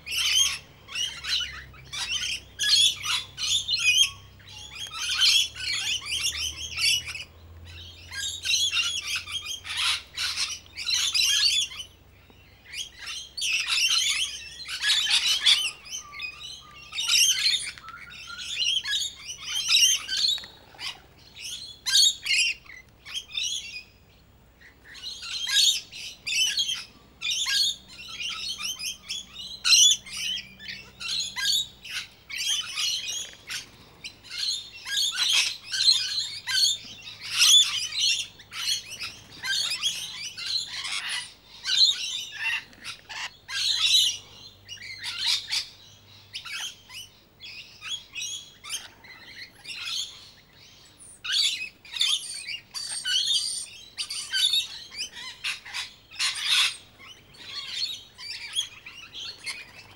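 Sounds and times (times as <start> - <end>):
lorikeets chattering: 0.0 - 59.9.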